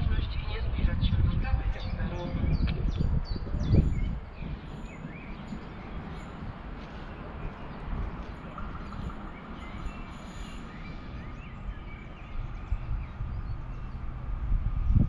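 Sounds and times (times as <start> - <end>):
low outdoor background noise: 0.0 - 15.0
small birds chirping: 0.1 - 15.0.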